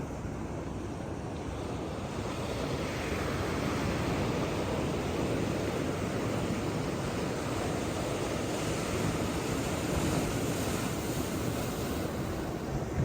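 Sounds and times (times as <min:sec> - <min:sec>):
sea waves washing onto beach: 0:00.8 - 0:13.0.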